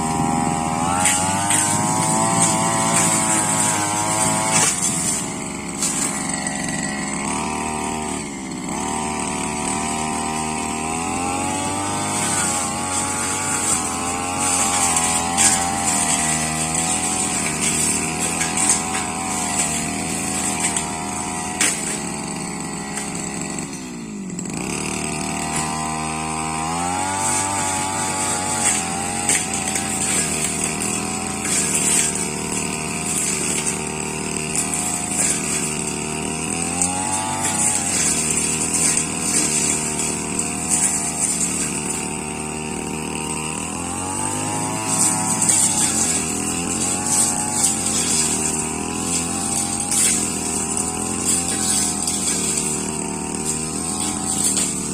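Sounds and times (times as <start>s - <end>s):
brush cutter engine revving: 0.0s - 54.9s.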